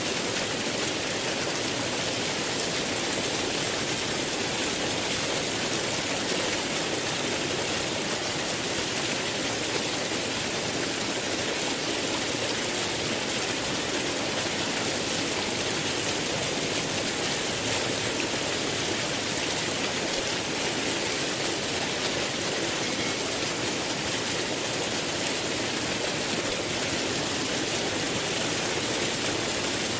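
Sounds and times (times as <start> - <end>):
flowing water rushing: 0.0 - 29.9.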